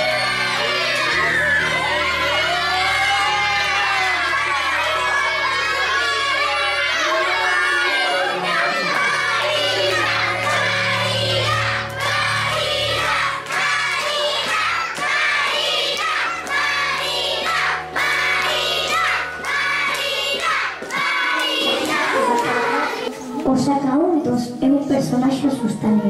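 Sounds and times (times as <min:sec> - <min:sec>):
children shouting: 0:00.0 - 0:23.5
background music: 0:00.0 - 0:26.0.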